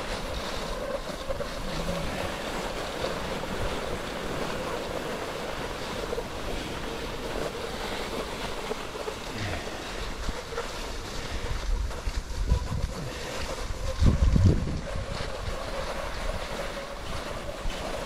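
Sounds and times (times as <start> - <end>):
skis hissing on snow: 0.0 - 18.0
wind buffeting microphone: 0.0 - 18.0.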